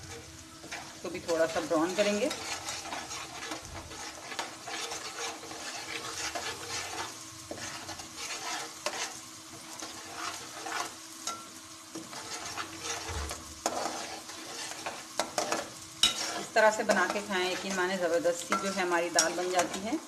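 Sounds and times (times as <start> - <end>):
food sizzling in oil: 0.0 - 20.0
metal spatula scraping pan: 0.0 - 20.0.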